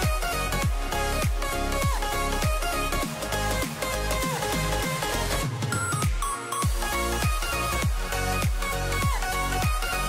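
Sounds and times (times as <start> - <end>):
electronic music with sliding bass: 0.0 - 10.0.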